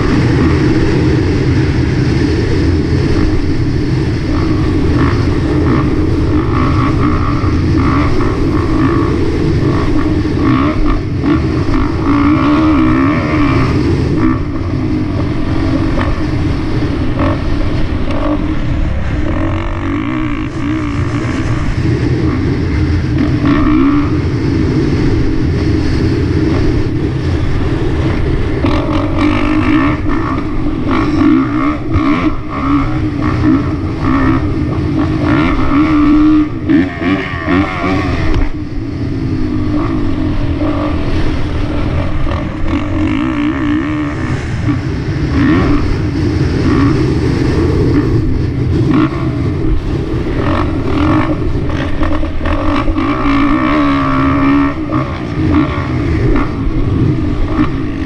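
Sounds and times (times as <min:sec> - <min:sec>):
motocross bike engine revving: 0:00.0 - 0:58.0
wind on microphone: 0:00.0 - 0:58.0.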